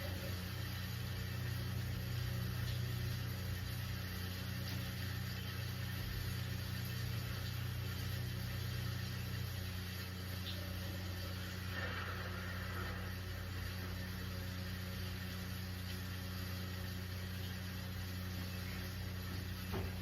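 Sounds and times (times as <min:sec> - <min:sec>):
constant low hum: 0:00.0 - 0:20.0
steady rain hiss: 0:00.0 - 0:20.0.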